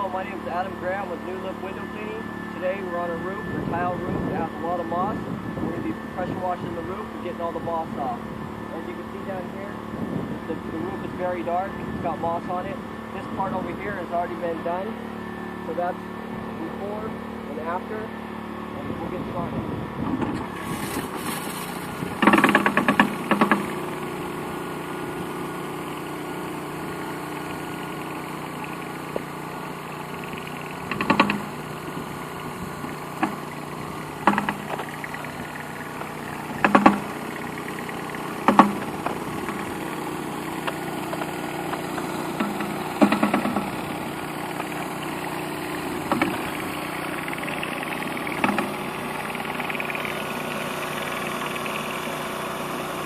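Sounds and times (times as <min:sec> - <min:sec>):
pressure washer engine running: 0:00.0 - 0:53.0.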